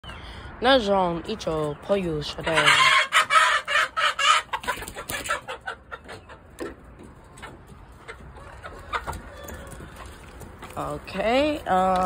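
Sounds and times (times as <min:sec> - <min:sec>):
chickens clucking: 0:01.2 - 0:12.0.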